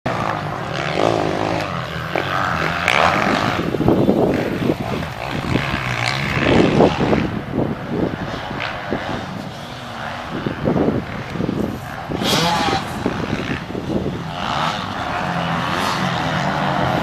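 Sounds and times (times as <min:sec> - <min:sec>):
dirt bike engines revving: 0:00.1 - 0:17.0.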